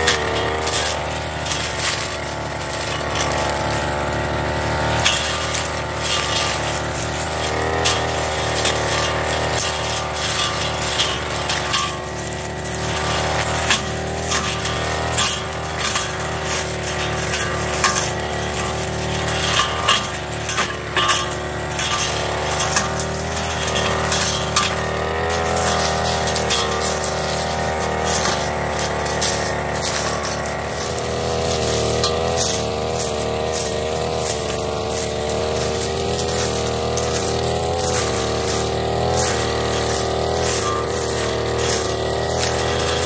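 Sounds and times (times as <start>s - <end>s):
brush cutter engine running: 0.0s - 43.0s
grass stems crackling as cut: 0.0s - 43.0s.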